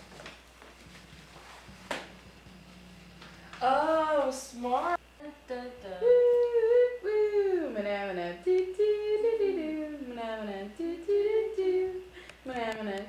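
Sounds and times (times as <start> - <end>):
woman humming a tune: 2.0 - 13.0.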